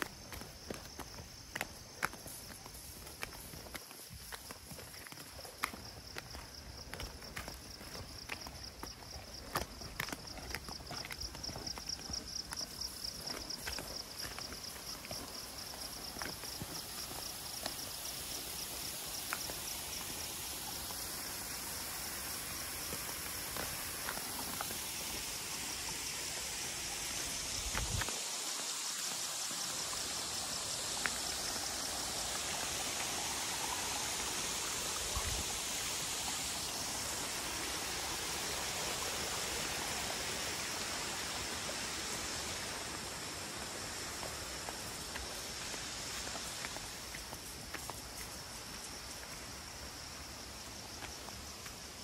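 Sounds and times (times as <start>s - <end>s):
flowing water rushing: 0.0s - 50.3s.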